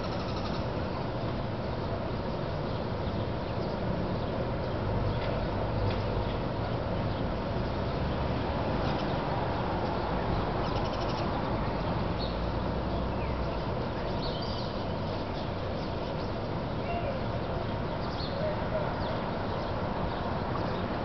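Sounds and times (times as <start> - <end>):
low city hum: 0.0 - 21.0.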